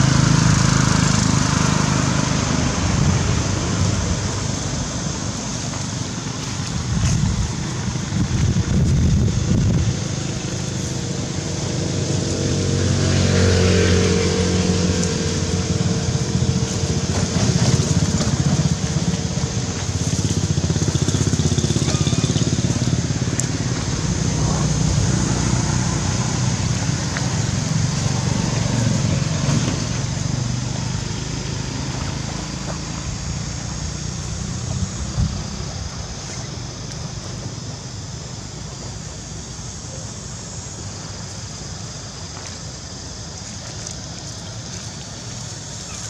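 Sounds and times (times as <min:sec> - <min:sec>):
motor engine humming: 0:00.0 - 0:46.0.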